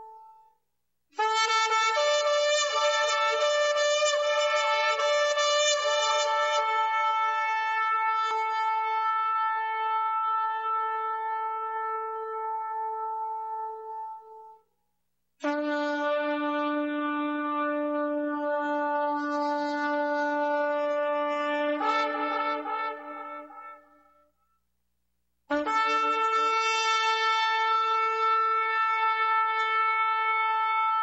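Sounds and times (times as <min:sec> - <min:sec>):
shofar blasts: 0:01.2 - 0:14.6, 0:15.4 - 0:24.3, 0:25.5 - 0:31.0.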